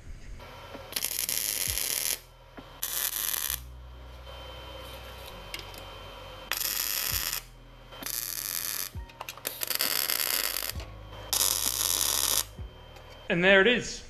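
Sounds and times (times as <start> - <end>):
low steady hum: 0.0 - 14.0
welder arc crackle: 0.1 - 13.4.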